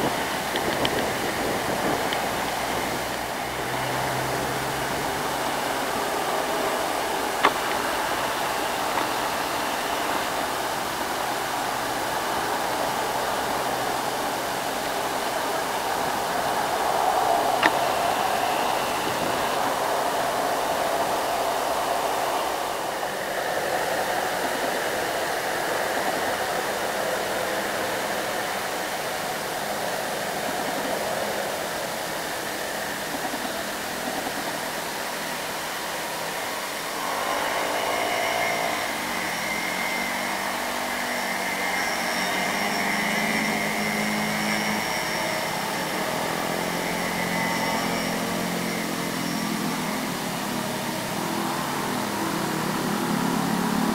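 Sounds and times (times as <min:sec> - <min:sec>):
road and tyre noise: 0:00.0 - 0:53.9
truck diesel engines: 0:00.0 - 0:53.9.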